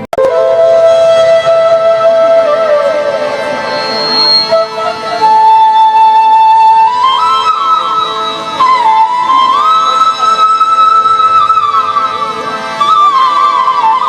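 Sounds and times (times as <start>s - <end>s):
flute-like melody: 0.0s - 14.0s
steady drone: 0.0s - 14.0s.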